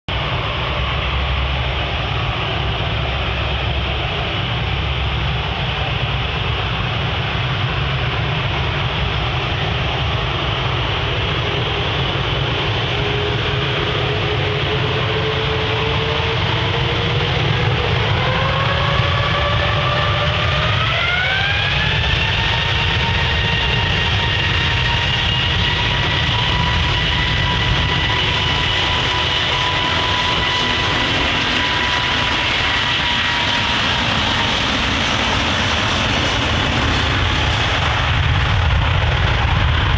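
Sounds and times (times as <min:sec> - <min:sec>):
jet engines spooling up: 0:00.1 - 0:39.9
rising engine whine: 0:00.1 - 0:39.9.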